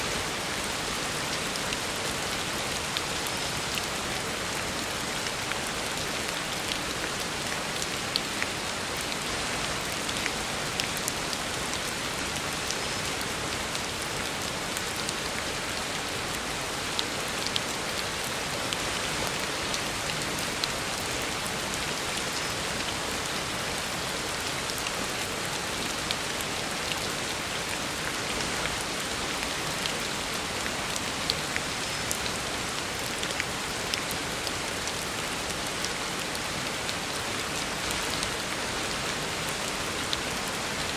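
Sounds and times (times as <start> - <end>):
heavy rain on a road: 0.0 - 40.9.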